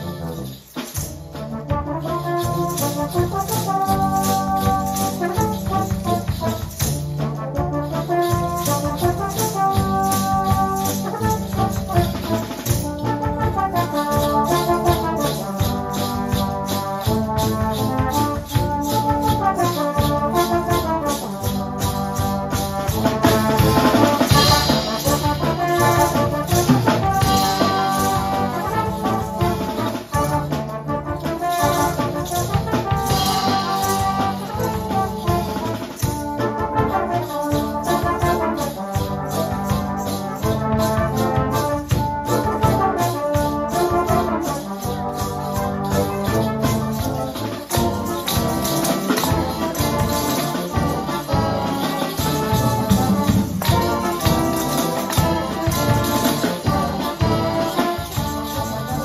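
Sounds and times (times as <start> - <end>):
brass band playing: 0.0 - 59.0
tambourines jingling: 0.0 - 59.0.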